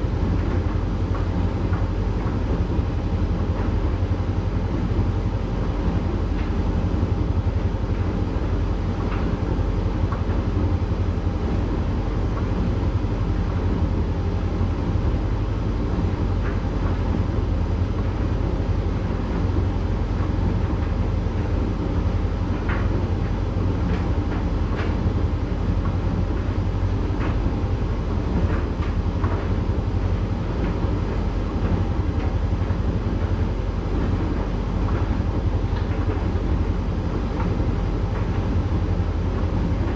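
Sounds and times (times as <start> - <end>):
tumble dryer rumbling: 0.0 - 39.9.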